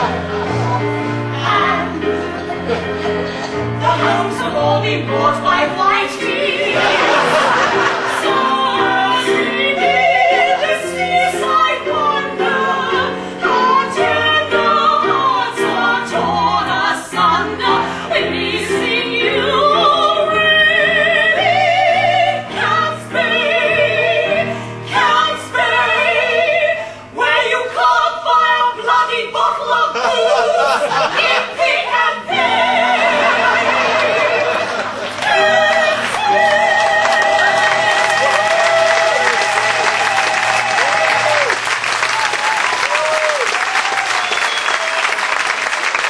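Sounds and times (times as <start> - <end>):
low musical accompaniment: 0.0 - 41.5
women singing operatically: 1.2 - 2.2, 3.5 - 41.5.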